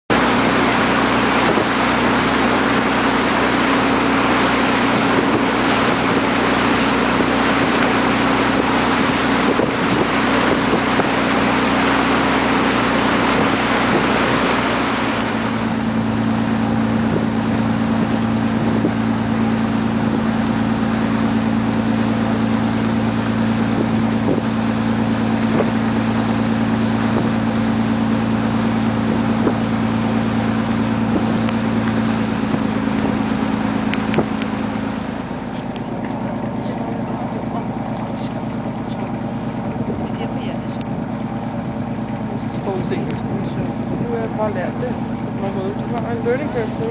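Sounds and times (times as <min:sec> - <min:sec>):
boat engine running: 0:00.0 - 0:46.9
water rushing: 0:00.0 - 0:46.9
wind: 0:00.0 - 0:46.9.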